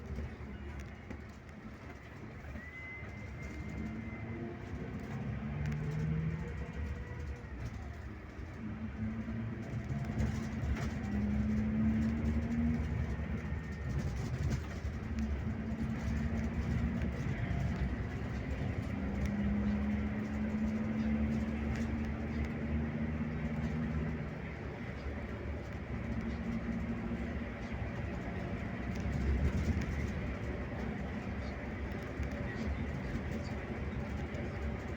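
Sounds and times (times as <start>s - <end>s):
bus engine and road rumble: 0.0s - 34.9s.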